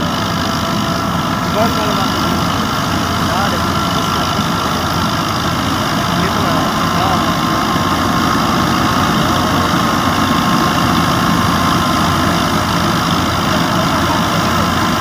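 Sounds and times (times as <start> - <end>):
tractor engine and thresher running: 0.0 - 15.0.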